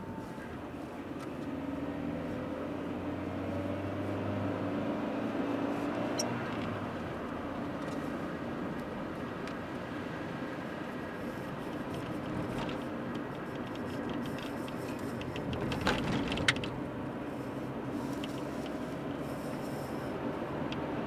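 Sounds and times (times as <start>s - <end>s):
car driving from inside cabin: 0.0s - 21.0s.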